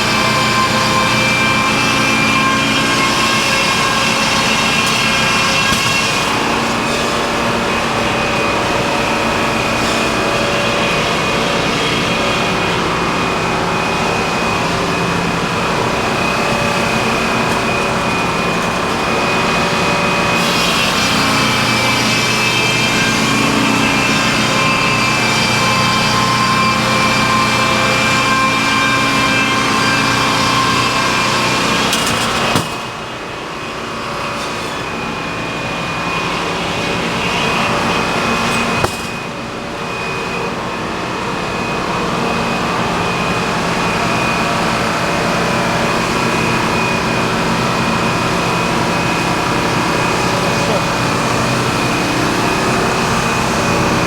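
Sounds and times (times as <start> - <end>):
sawmill machinery drone and whine: 0.0 - 54.0.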